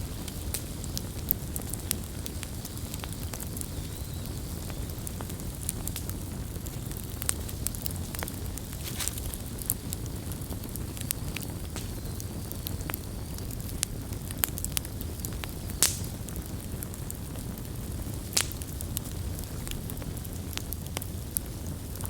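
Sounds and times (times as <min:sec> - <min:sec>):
campfire burning rumble: 0:00.0 - 0:22.0
campfire crackling pops: 0:00.0 - 0:22.0.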